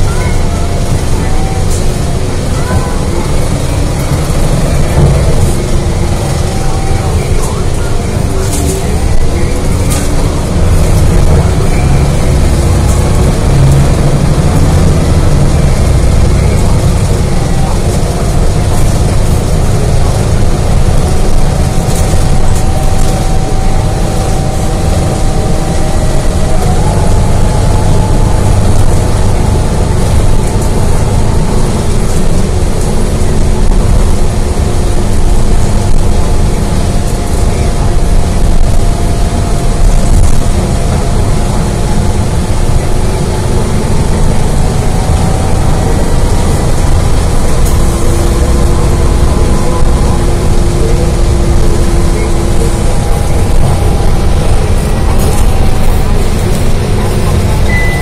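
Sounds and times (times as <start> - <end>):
bus engine rumbling with whine: 0.0 - 58.0.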